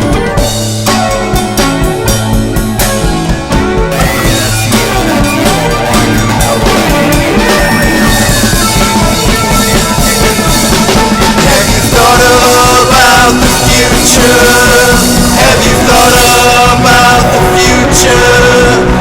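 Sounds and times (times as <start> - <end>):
loud rock music with drums: 0.0 - 19.0
melodic lead guitar line: 0.0 - 19.0.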